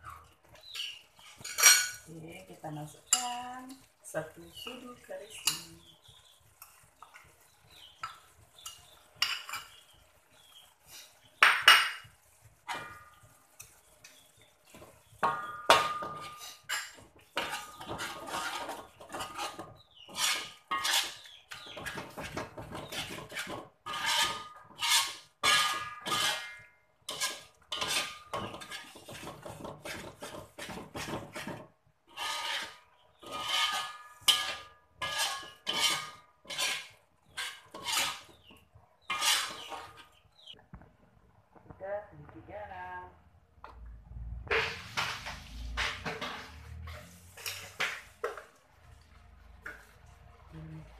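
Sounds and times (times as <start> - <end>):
metal spatula scraping wok: 0.5 - 40.5, 44.4 - 50.1.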